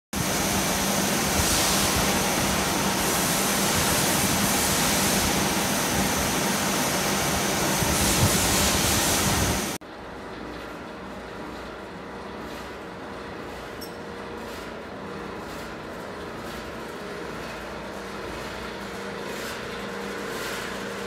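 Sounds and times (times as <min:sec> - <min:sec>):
oven fan rushing: 0:00.2 - 0:21.0.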